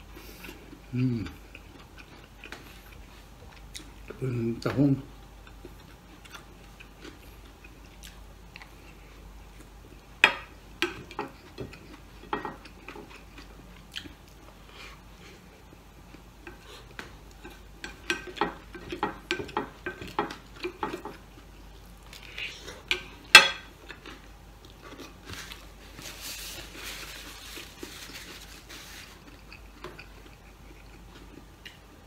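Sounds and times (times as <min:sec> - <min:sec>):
person chewing: 0:00.0 - 0:04.3, 0:05.4 - 0:09.8, 0:10.9 - 0:32.0.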